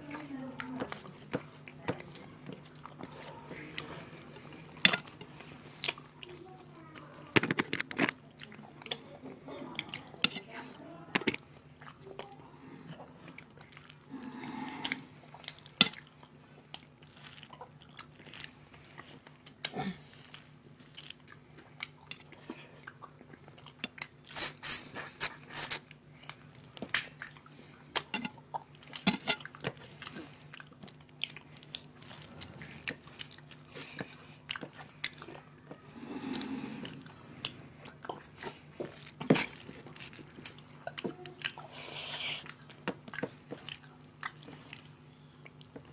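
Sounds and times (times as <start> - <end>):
chewing and mouth sounds: 0.0 - 45.9
faint low hum: 0.0 - 45.9.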